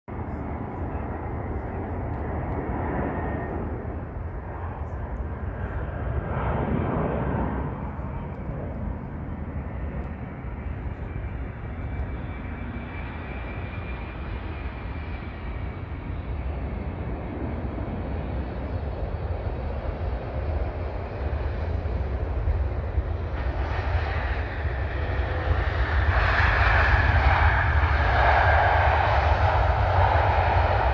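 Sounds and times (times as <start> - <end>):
jet engines rumbling with whine: 0.1 - 30.9.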